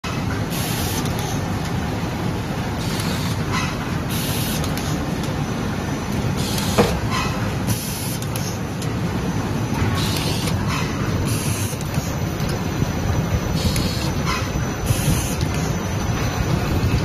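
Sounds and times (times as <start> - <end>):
machine mechanical rumble: 0.0 - 17.0.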